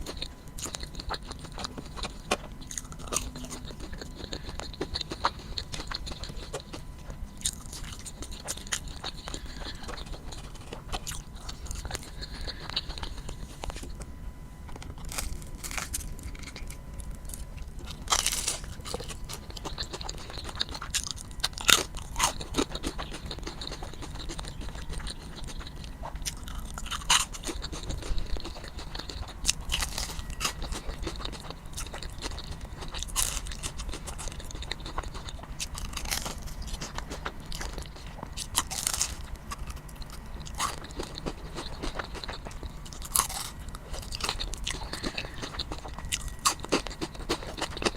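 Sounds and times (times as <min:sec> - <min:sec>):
crunchy food being chewed: 0:00.0 - 0:47.9.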